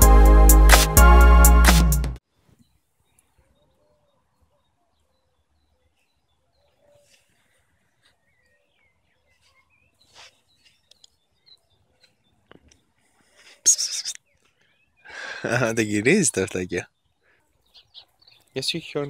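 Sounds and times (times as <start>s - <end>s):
birds chirping softly: 2.3s - 19.0s.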